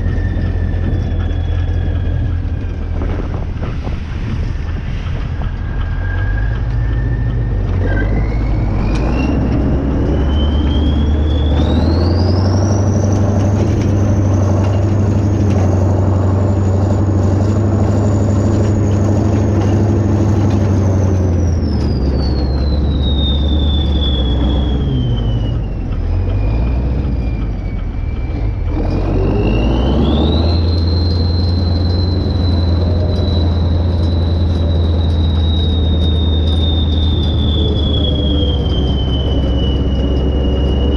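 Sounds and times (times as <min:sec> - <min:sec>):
tractor diesel engine whining: 0:00.0 - 0:40.9.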